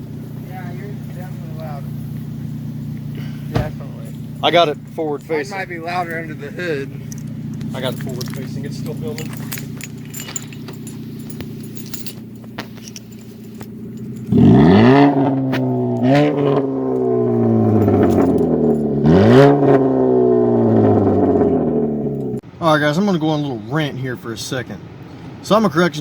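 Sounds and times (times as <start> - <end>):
car engine idling and revving: 0.0 - 22.5.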